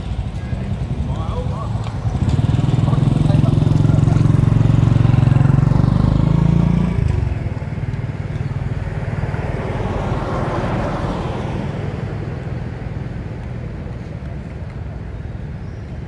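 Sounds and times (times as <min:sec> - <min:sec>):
road traffic noise: 0:00.0 - 0:16.0
vehicle engine droning: 0:00.0 - 0:16.0.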